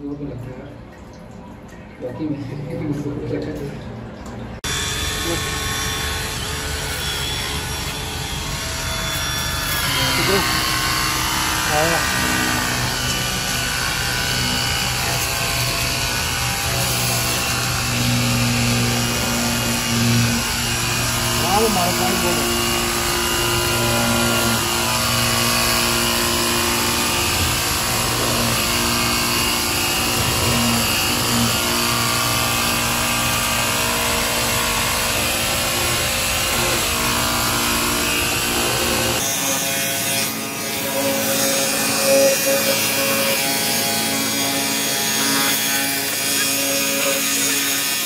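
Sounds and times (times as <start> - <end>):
pressure washer pump humming: 3.6 - 48.0.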